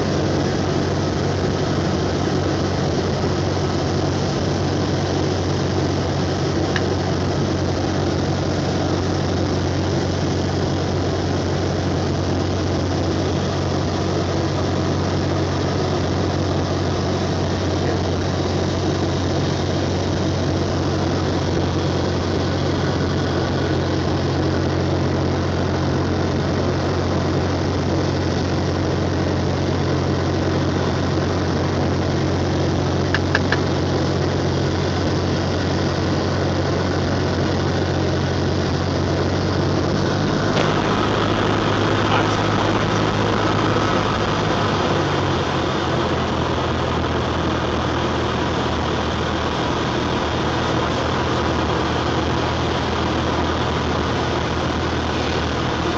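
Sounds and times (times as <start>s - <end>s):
airplane engine droning in cabin: 0.0s - 55.9s.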